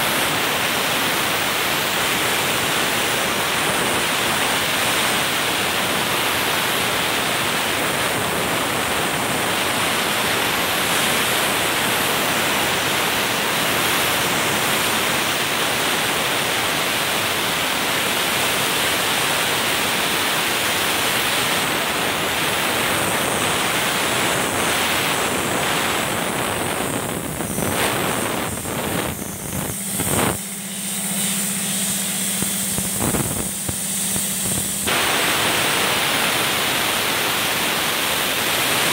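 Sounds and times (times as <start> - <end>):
sandblaster hissing: 0.0 - 38.9.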